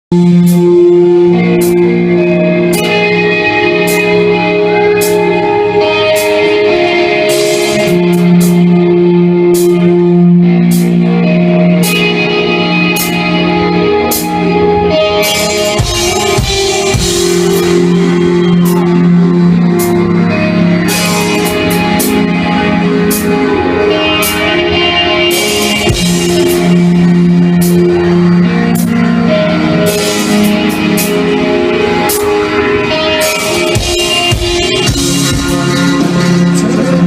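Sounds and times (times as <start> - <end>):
ringing guitar chords: 0.1 - 37.0
rock band playing: 0.1 - 37.0.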